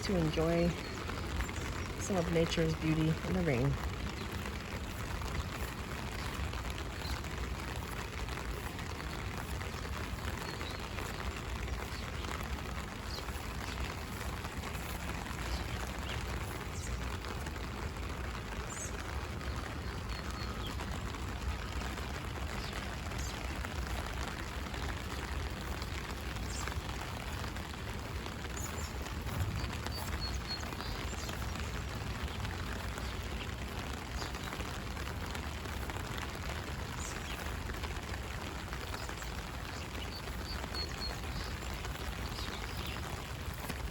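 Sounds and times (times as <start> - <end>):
rain pattering on an umbrella: 0.0 - 43.9.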